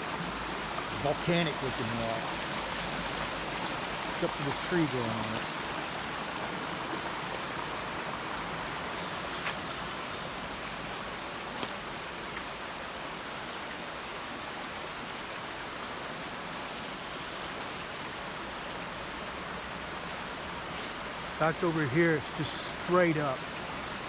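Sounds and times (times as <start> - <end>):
stream water rushing: 0.0 - 24.0.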